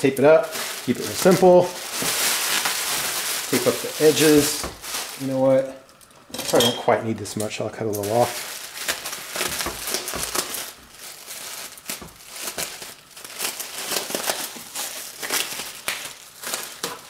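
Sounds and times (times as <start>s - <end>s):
bubble wrap crackles: 0.0s - 6.1s, 7.9s - 17.0s
bubble wrap crinkling: 0.0s - 6.2s, 7.9s - 17.0s.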